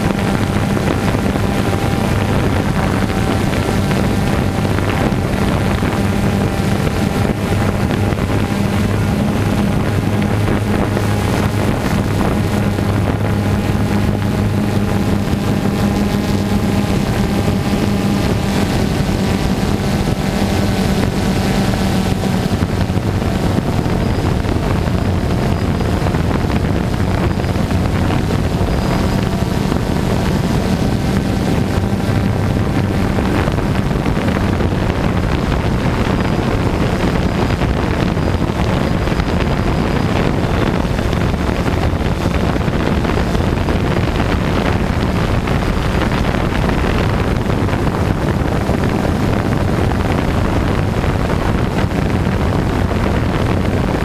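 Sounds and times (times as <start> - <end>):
drone propellers buzzing: 0.0 - 54.0
wind noise on microphone: 0.0 - 54.0.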